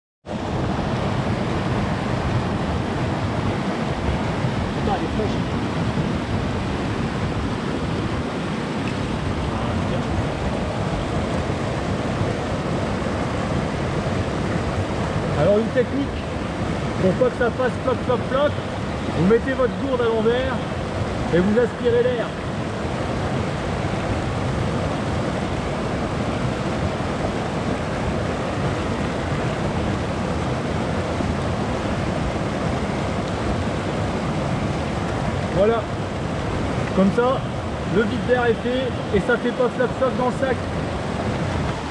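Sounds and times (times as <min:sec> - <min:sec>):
running water rushing: 0:00.3 - 0:41.9.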